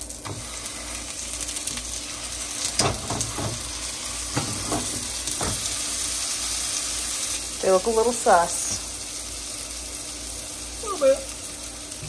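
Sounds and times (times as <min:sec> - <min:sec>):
patties sizzling in oil: 0:00.0 - 0:12.0.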